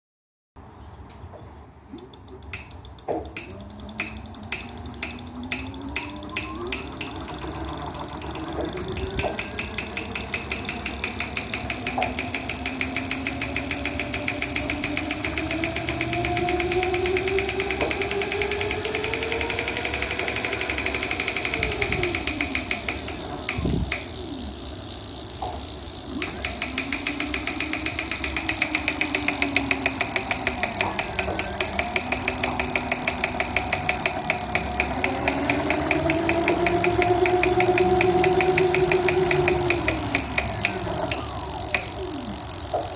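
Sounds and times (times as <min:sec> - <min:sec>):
motor clicking: 0:01.9 - 0:42.9
motor whine: 0:02.5 - 0:42.9.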